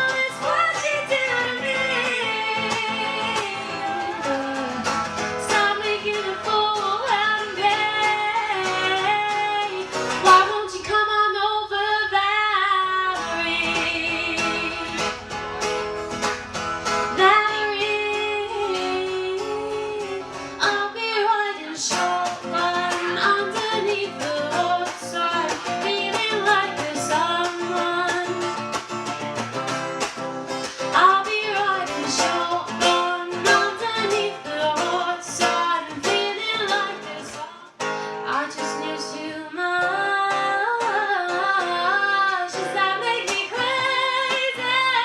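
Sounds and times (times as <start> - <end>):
woman singing: 0.0 - 15.4, 17.1 - 28.9, 30.6 - 45.0
guitar: 0.0 - 45.0.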